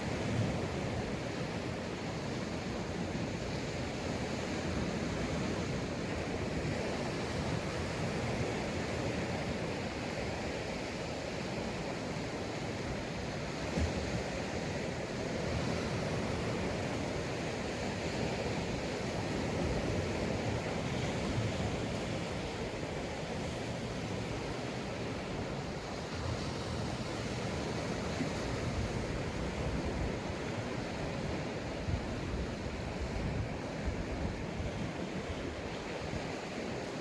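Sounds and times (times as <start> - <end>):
sea waves washing on a beach: 0.0 - 37.0.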